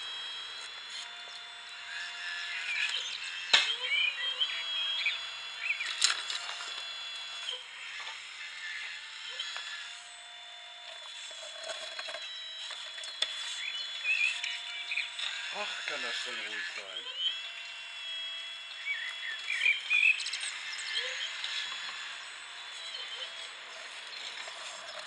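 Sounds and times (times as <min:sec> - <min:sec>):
model excavator motors whining: 0:00.0 - 0:25.0.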